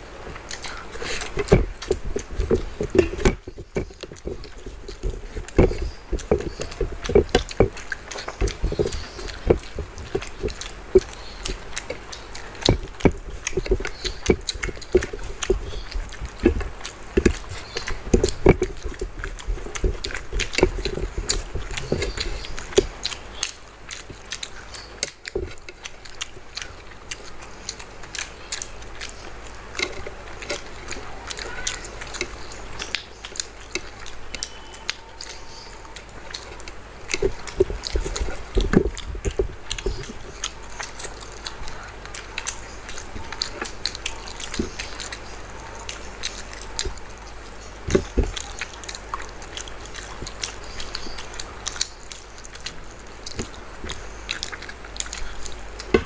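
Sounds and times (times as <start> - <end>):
wet chewing and lip-smacking: 0.0 - 56.0.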